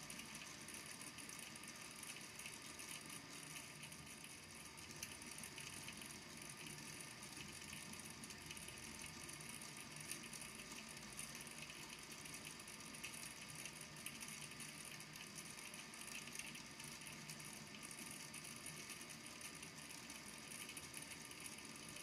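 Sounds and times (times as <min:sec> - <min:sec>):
small balls ticking in water tank: 0:00.0 - 0:22.0.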